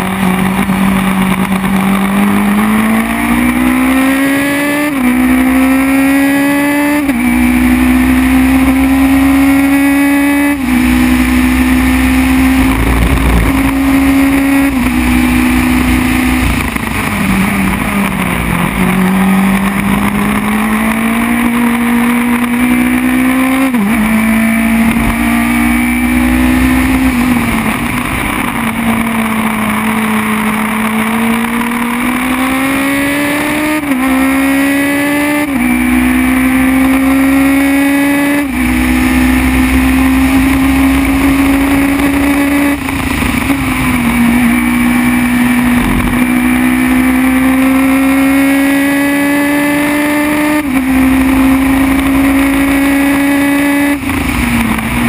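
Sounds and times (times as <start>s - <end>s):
racing car engine accelerating: 0.0s - 55.0s.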